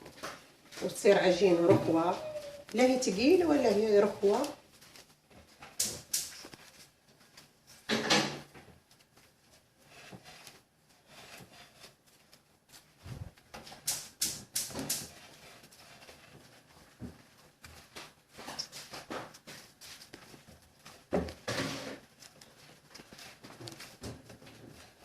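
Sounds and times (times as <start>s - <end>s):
quiet rustling: 0.0s - 7.9s, 8.5s - 13.9s, 14.9s - 25.0s
dough being kneaded by hand: 0.0s - 25.0s.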